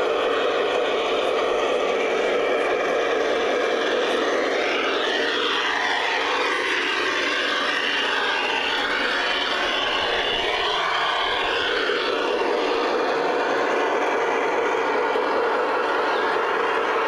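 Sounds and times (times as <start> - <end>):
model train whirring on rails: 0.0 - 17.0.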